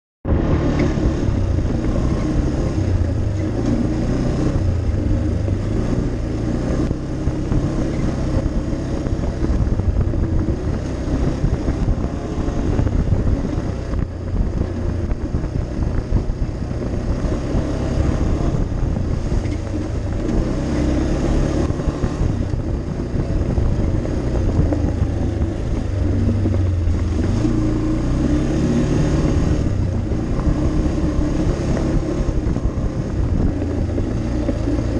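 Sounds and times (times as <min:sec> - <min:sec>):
atv engine running: 0:00.3 - 0:34.9.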